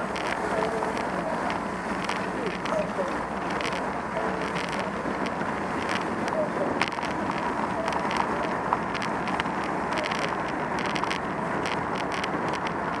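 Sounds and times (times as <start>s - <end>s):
passing motor traffic: 0.0s - 13.0s
road noise: 0.0s - 13.0s
light clicks and rattles: 0.1s - 13.0s.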